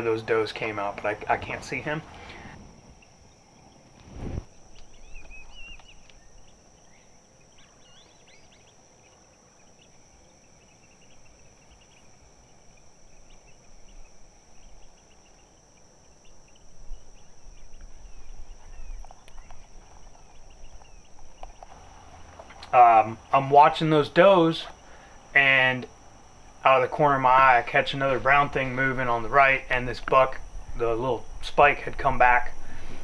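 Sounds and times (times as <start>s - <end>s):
high-pitched insect drone: 0.3s - 32.9s.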